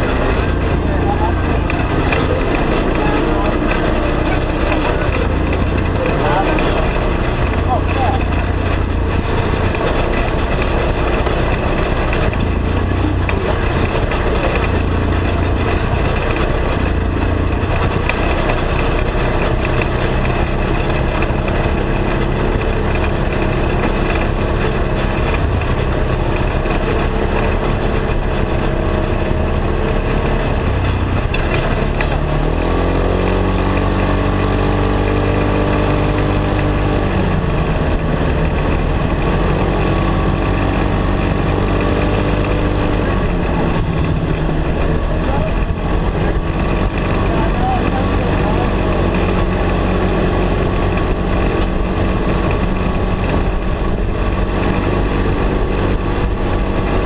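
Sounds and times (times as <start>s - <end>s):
side-by-side engine running: 0.0s - 57.0s
wind and road noise: 0.0s - 57.0s.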